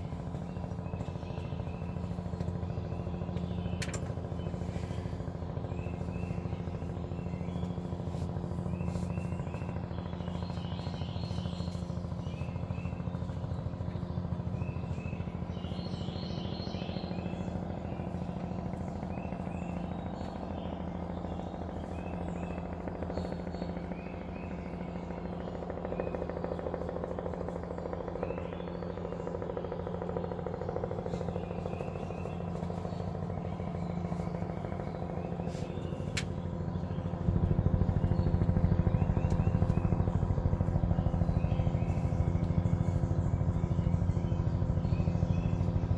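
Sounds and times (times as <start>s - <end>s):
helicopter rotor thrum: 0.0s - 45.9s.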